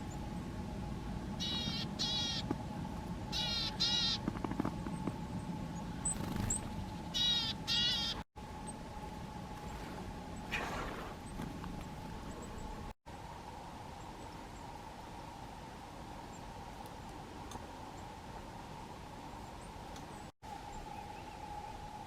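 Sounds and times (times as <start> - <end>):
wind rumble: 0.0 - 22.0.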